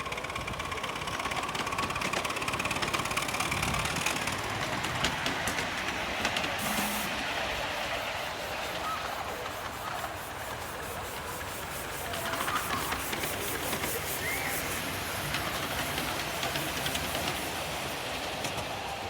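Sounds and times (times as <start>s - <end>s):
train rushing past: 0.0s - 19.0s.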